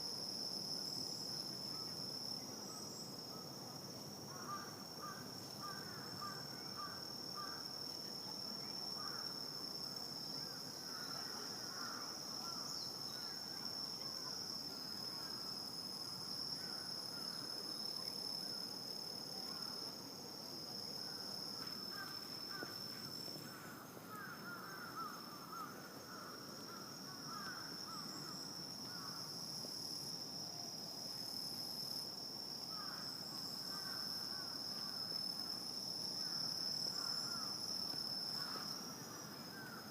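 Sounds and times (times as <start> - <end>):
crickets trilling: 0.0 - 39.9
rapid insect chirping: 0.0 - 39.9.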